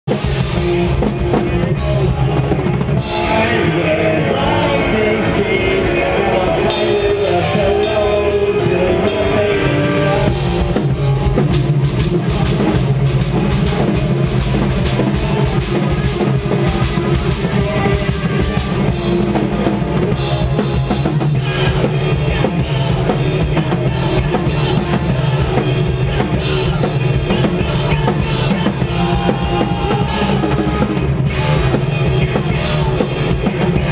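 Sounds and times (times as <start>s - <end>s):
hardcore band playing live: 0.0s - 33.9s
heavy bass drum: 0.1s - 3.8s, 4.4s - 33.9s.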